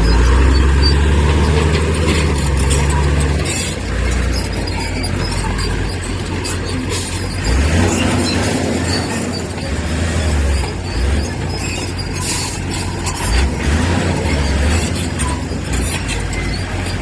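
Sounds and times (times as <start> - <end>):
heavy machinery diesel engine rumble: 0.0 - 17.0.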